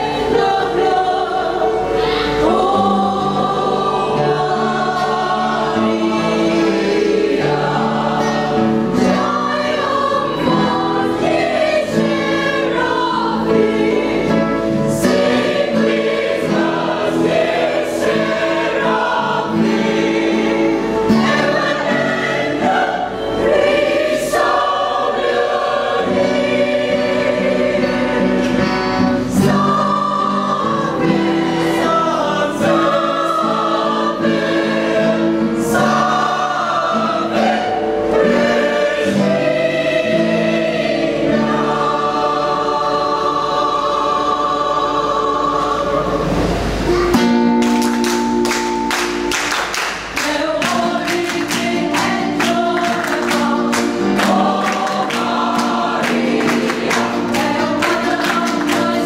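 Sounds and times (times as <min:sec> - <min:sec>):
acoustic guitar: 0:00.0 - 0:59.0
mixed choir singing a hymn: 0:00.0 - 0:59.0.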